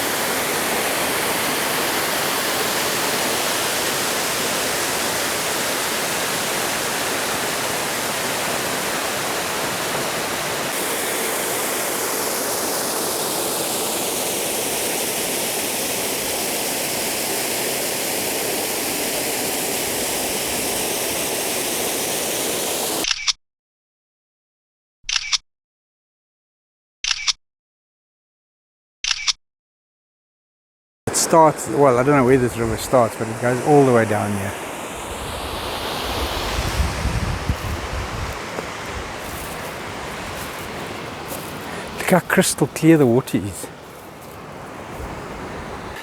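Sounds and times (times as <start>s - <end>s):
waterfall and river rushing: 0.0s - 23.0s, 31.1s - 46.0s.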